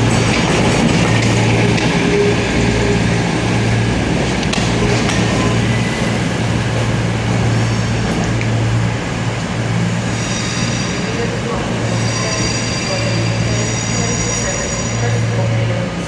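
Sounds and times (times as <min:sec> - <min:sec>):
diesel train engine hum: 0:00.0 - 0:16.0
train rolling rumble: 0:00.0 - 0:16.0.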